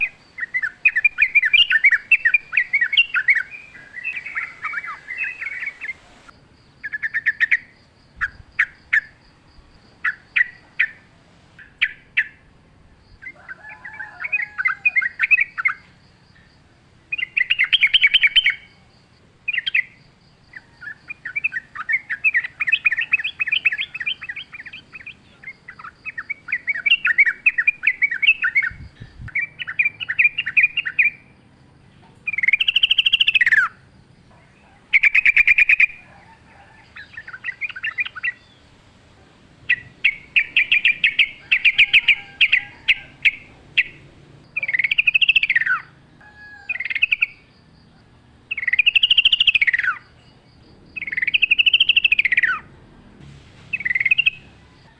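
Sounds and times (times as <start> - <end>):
bird singing bubbling chatter: 0.0 - 54.9.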